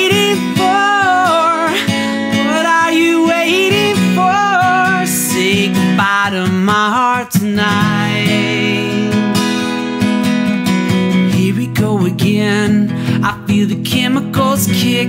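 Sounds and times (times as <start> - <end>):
man singing: 0.0 - 9.9, 11.1 - 15.0
acoustic guitar strumming: 0.0 - 15.0.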